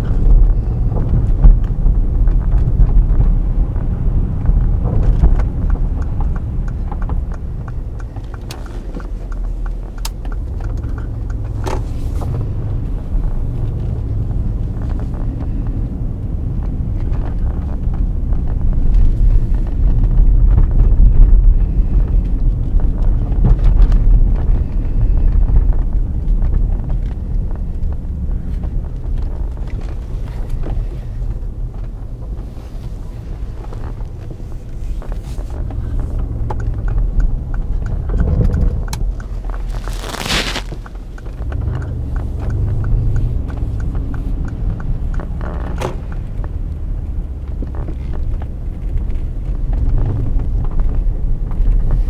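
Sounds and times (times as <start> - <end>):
car engine rumbling under load: 0.0 - 52.0.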